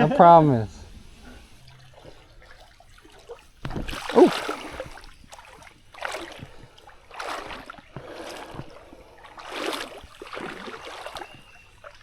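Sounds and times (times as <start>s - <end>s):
creek water splashing from wading: 0.2s - 12.0s.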